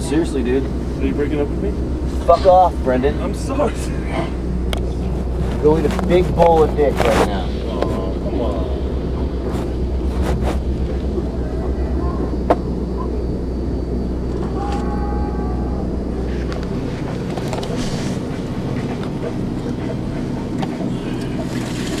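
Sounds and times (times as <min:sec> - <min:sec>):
bus rumbling on the road: 0:00.0 - 0:22.0.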